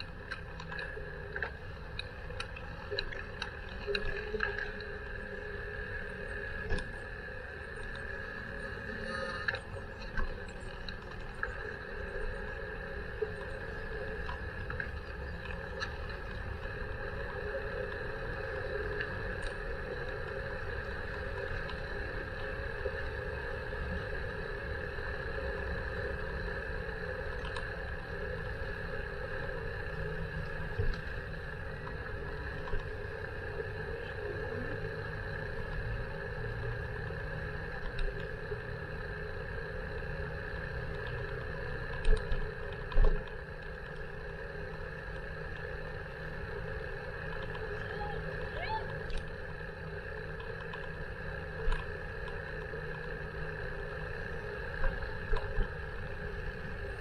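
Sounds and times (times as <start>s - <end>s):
bicycle riding rumble: 0.0s - 57.0s.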